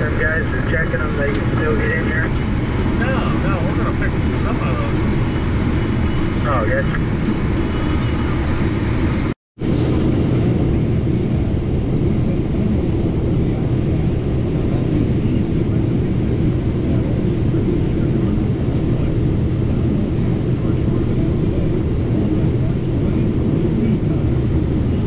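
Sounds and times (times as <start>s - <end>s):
combine engine and threshing rumble: 0.0s - 25.0s.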